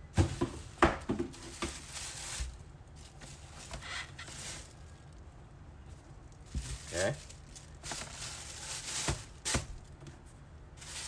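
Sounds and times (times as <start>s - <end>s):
plastic bag rustling and crinkling: 0.1s - 11.0s.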